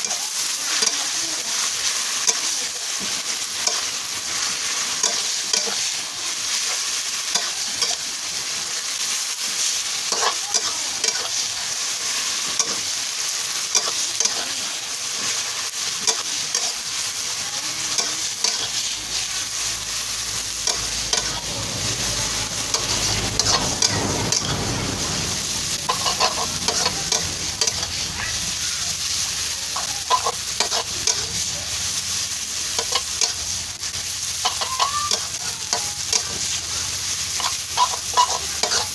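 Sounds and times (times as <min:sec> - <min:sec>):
food sizzling in a wok: 0:00.0 - 0:38.9
metal spatula scraping a wok: 0:03.0 - 0:12.9, 0:13.6 - 0:32.0, 0:32.6 - 0:38.9.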